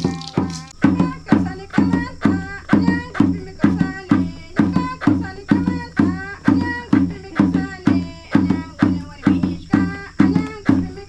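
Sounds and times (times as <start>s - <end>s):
hand drums beating: 0.0s - 11.0s
women singing: 0.0s - 11.0s.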